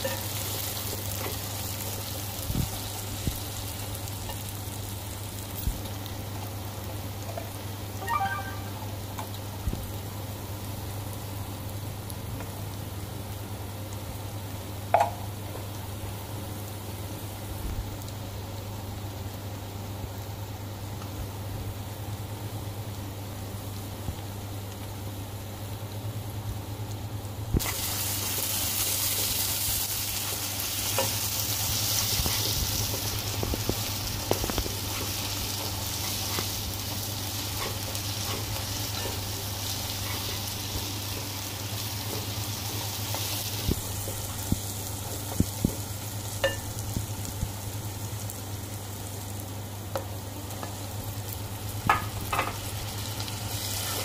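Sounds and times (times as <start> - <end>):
vegetables sizzling in a wok: 0.0 - 54.0.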